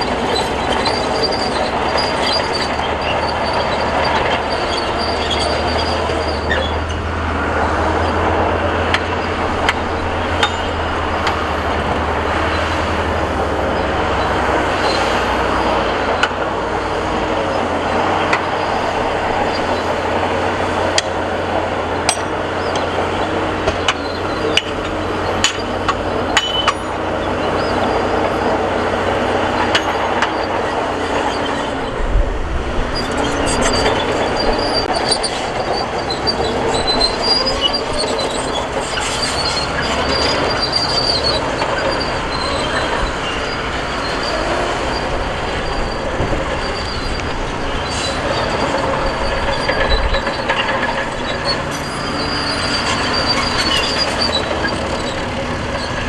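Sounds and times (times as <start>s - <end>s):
bulldozer diesel engine running: 0.0s - 56.0s
steel tracks clanking and squealing: 0.0s - 56.0s.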